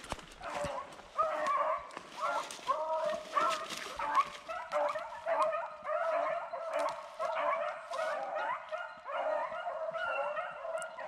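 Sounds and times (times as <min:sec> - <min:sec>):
dogs barking and yipping: 0:00.4 - 0:11.0.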